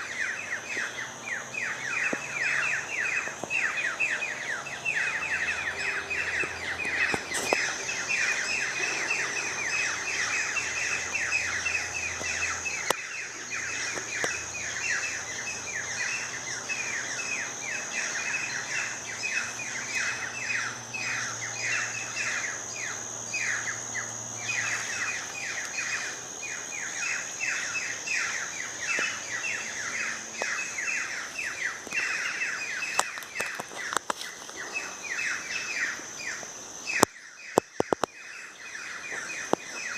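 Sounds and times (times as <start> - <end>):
birds calling: 0.0 - 39.9
steady high-pitched whine: 0.0 - 39.9.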